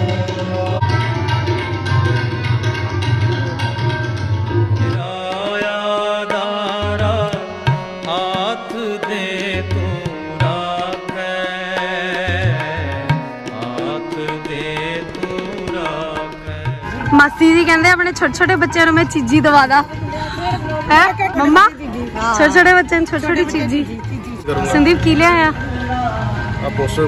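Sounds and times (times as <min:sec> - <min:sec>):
tabla drumming: 0:00.0 - 0:27.0.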